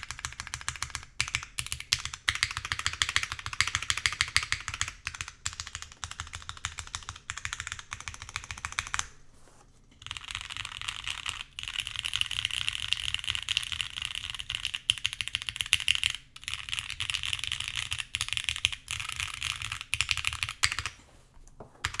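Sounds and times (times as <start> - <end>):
typing on mechanical keyboard: 0.0 - 9.1, 10.0 - 21.0.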